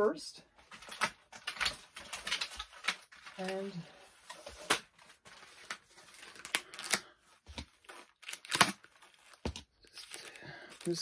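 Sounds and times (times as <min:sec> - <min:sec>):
plastic and cardboard rustling: 0:00.5 - 0:11.0.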